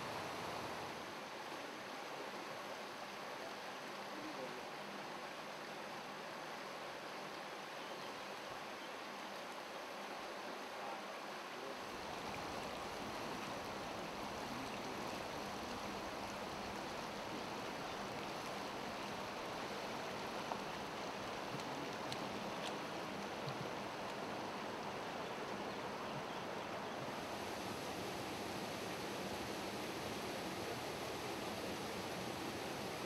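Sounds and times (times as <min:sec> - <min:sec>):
stream rushing over stones: 0:00.0 - 0:33.0.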